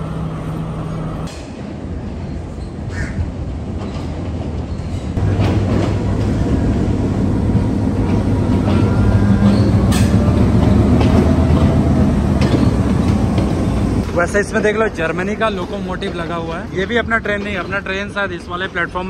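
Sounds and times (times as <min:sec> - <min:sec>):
diesel locomotive rolling past: 0:00.0 - 0:19.0.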